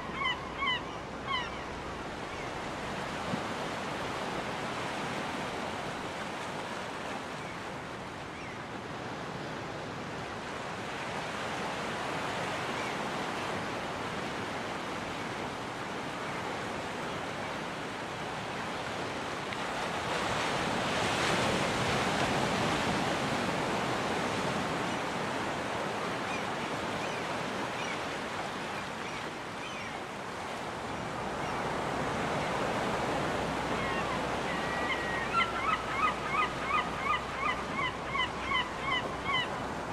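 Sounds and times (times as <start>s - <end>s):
ocean surf washing onto beach: 1.0s - 39.9s.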